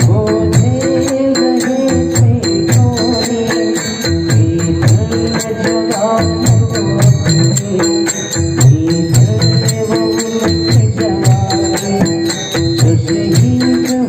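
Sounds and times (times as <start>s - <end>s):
percussion beat: 0.0s - 14.0s.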